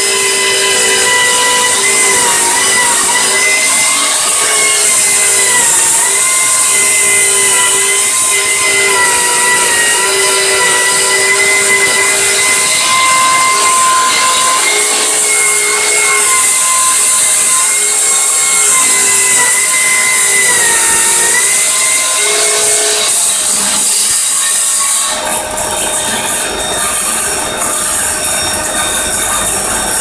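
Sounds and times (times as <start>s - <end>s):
table saw motor whine: 0.0s - 30.0s.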